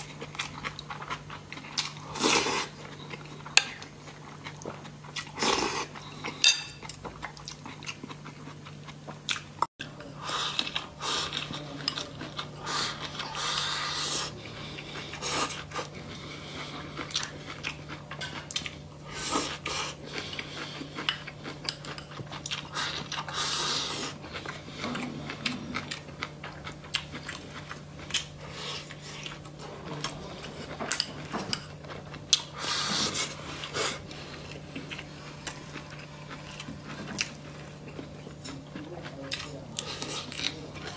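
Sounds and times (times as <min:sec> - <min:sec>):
person chewing: 0:00.0 - 0:40.9.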